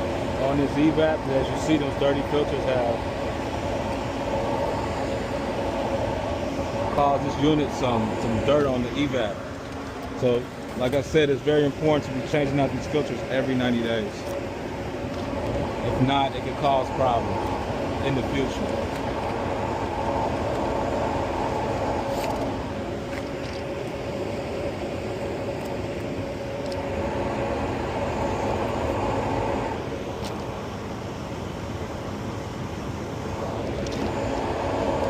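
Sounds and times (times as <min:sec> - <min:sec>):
air conditioning unit drone: 0:00.0 - 0:35.0.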